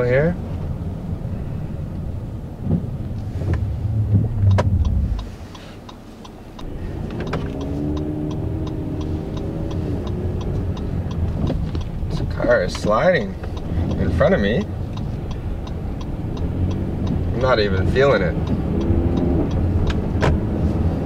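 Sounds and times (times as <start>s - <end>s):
tyre and road rumble: 0.0s - 21.0s
light regular ticking: 0.4s - 21.0s
truck engine pulling: 1.2s - 21.0s.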